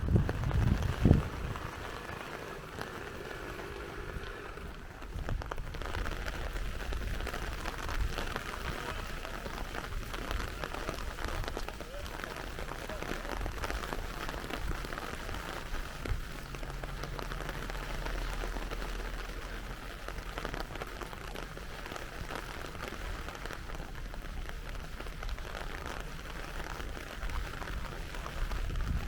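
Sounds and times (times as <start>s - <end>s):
low rumble: 0.0s - 26.0s
rain falling: 0.0s - 29.0s.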